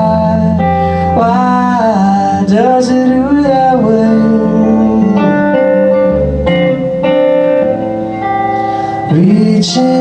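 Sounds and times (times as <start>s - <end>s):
person singing: 0.0s - 7.0s, 8.8s - 10.0s
guitar playing: 0.0s - 10.0s.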